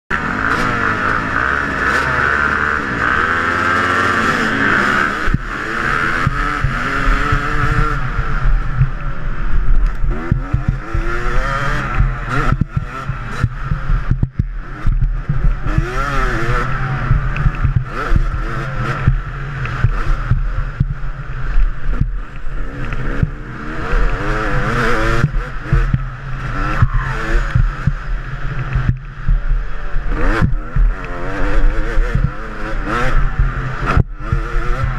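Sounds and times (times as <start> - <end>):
dirt bike accelerating: 0.1 - 34.9
dirt bike engines running: 0.1 - 34.9.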